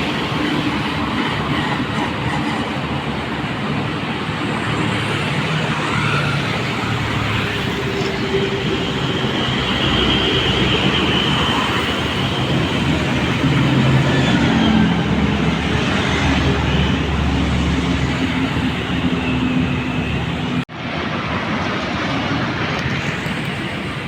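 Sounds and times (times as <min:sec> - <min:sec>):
vehicle engines passing: 0:00.0 - 0:24.0.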